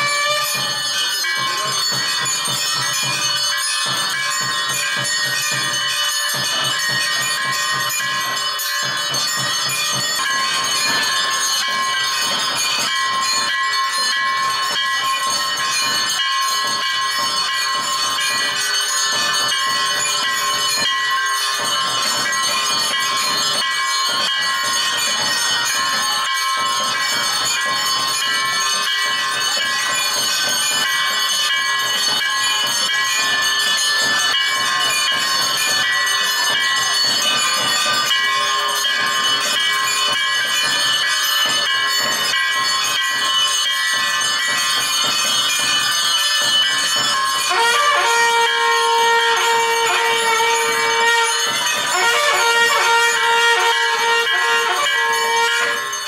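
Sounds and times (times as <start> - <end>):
many bells ringing: 0.0 - 56.0.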